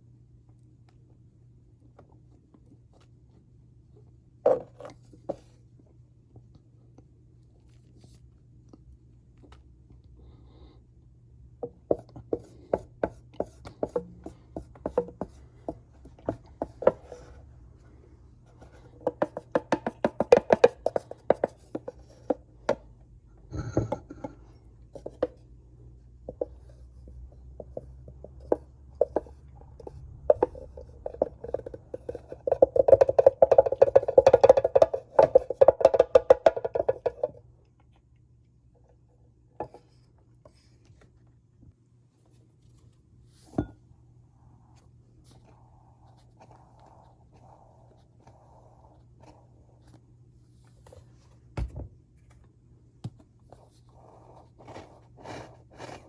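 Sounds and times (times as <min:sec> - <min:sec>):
faint low hum: 0:00.0 - 0:35.8, 0:36.7 - 0:56.0.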